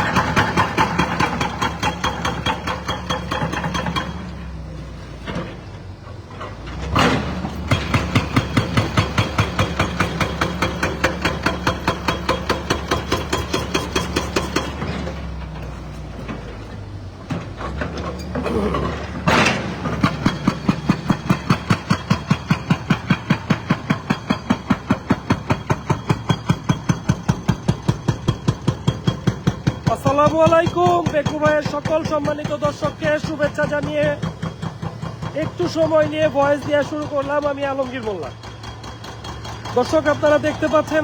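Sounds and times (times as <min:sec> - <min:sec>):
hydraulic breaker hammering concrete: 0:00.0 - 0:04.4, 0:07.0 - 0:15.5, 0:18.5 - 0:41.0
diesel engine running: 0:00.0 - 0:41.0.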